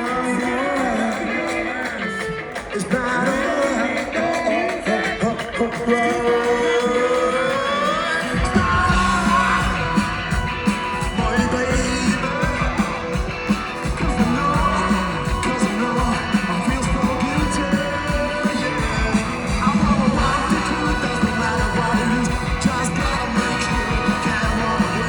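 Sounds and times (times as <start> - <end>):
drums and bass: 0.0 - 25.0
electric guitar lines: 0.0 - 25.0
vocals: 0.0 - 25.0.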